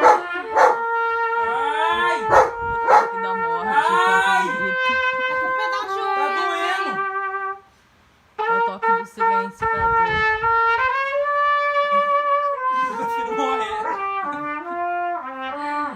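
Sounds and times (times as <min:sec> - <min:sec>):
solo trumpet mournful melody: 0:00.0 - 0:15.9.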